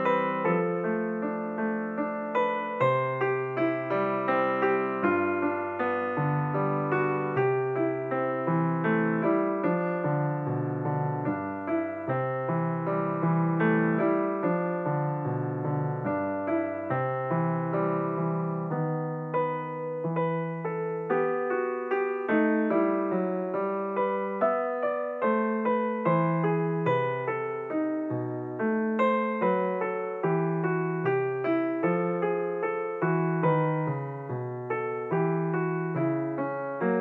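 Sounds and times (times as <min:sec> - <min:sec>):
gentle piano music: 0:00.0 - 0:37.0.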